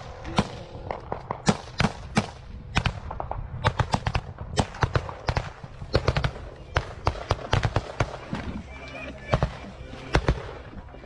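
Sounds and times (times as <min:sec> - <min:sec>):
gunfire shots: 0:00.0 - 0:08.6, 0:09.3 - 0:10.7.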